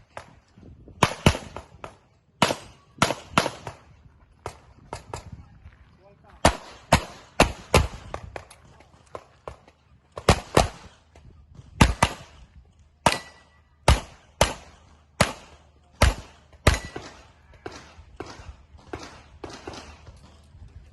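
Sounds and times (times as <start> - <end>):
pistol shots with echo: 1.0 - 5.3, 6.3 - 11.1, 11.8 - 20.2.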